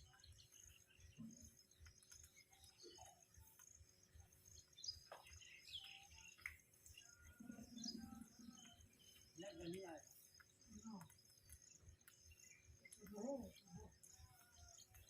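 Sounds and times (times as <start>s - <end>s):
faint birdsong: 0.0s - 15.0s.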